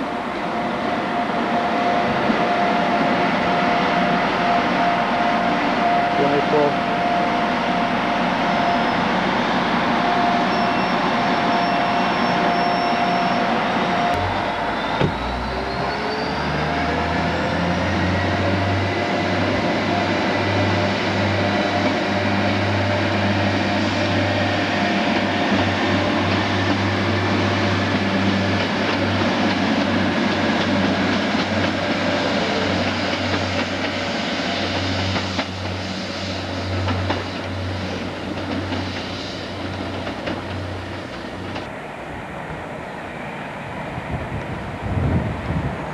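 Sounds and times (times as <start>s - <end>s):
diesel train running: 0.0s - 45.9s.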